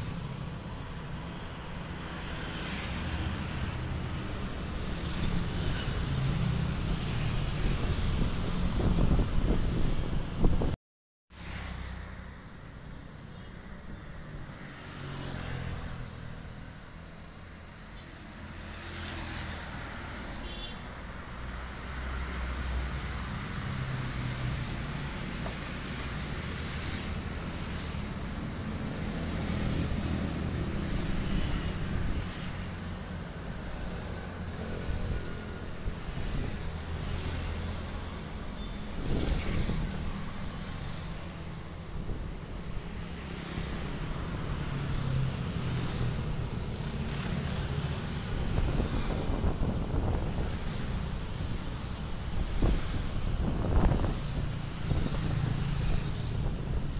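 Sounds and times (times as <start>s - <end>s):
vehicles passing: 0.0s - 10.8s, 11.4s - 56.9s
street traffic noise: 0.0s - 56.9s.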